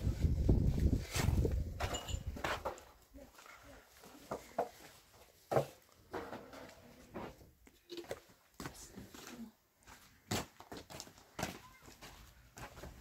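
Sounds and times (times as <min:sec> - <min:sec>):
footsteps on rubble: 0:00.6 - 0:13.0.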